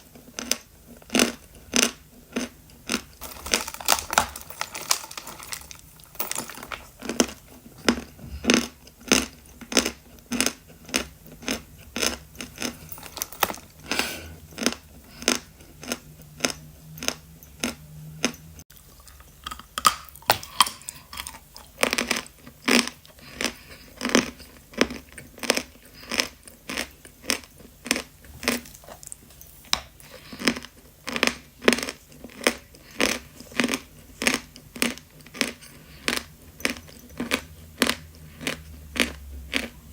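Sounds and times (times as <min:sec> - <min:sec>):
person chewing crunchy chalk: 0:00.0 - 0:39.9.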